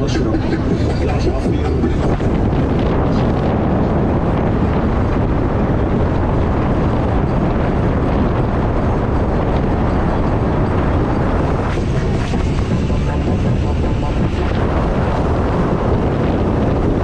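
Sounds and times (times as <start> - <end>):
boat engine: 0.0 - 17.0
wind buffeting microphone: 0.0 - 17.0.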